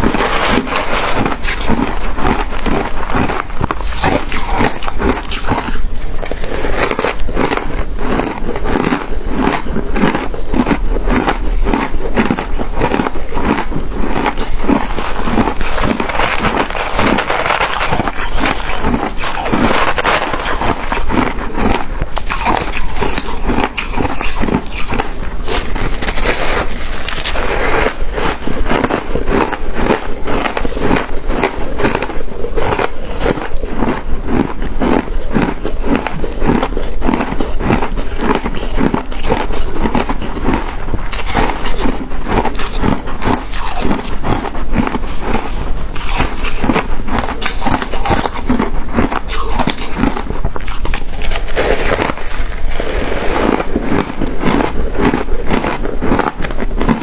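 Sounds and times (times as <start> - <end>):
crunchy ice chewing: 0.0 - 57.0.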